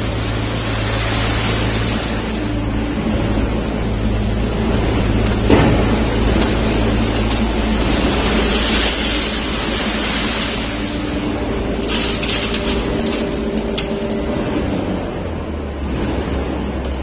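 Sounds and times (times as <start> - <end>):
baler mechanical hum: 0.0 - 17.0.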